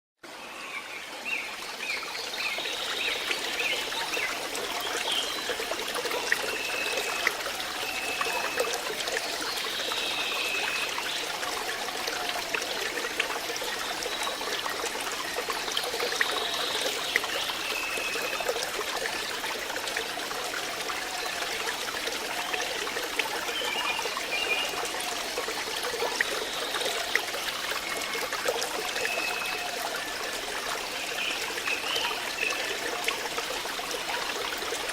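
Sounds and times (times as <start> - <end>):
water trickling: 0.2 - 34.9.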